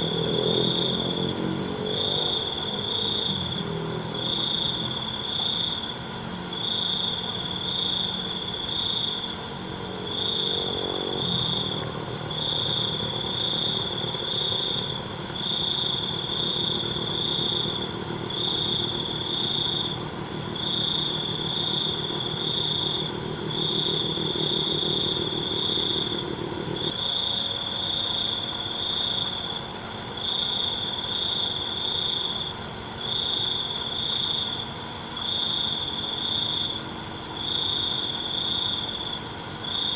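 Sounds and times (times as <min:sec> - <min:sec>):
chorus of insects: 0:00.0 - 0:39.9
crickets trilling: 0:00.0 - 0:39.9.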